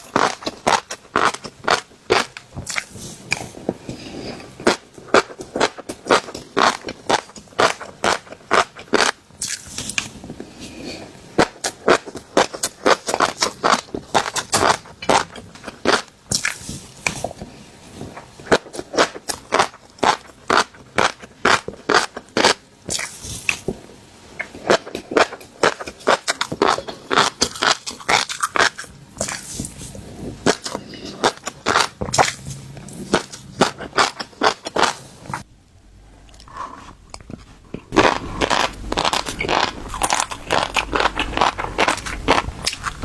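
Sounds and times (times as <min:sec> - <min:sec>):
fish roe popping and crackling: 0:00.0 - 0:03.9, 0:04.5 - 0:10.3, 0:11.4 - 0:23.8, 0:24.4 - 0:35.5, 0:37.1 - 0:43.0.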